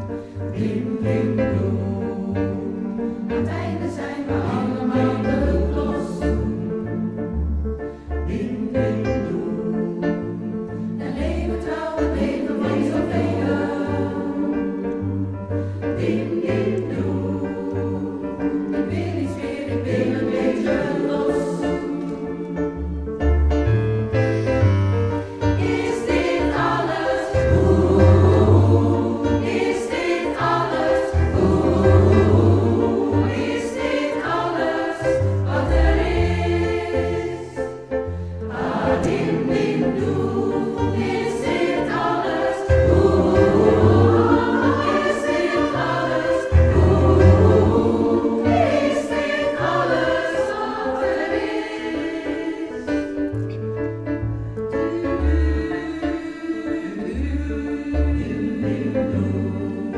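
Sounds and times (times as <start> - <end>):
keyboard accompaniment: 0.0 - 59.9
large choir singing: 0.0 - 59.9.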